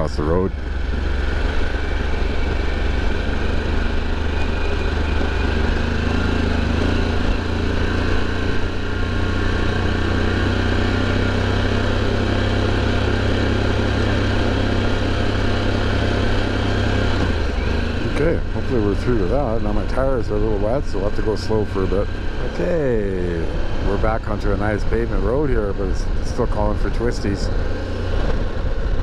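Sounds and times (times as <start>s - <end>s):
motorcycle engine drone: 0.0s - 29.0s
wind and tyre noise: 0.0s - 29.0s.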